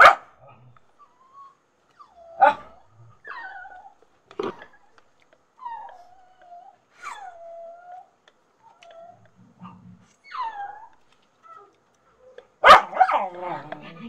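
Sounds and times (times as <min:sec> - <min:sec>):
dog whining: 0:01.0 - 0:05.0, 0:05.6 - 0:14.0.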